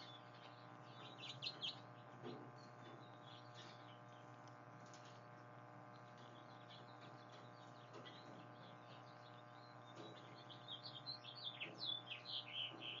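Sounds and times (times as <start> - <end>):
small birds chirping and singing: 0.0 - 4.6, 5.9 - 13.0
steady low hum: 0.0 - 13.0.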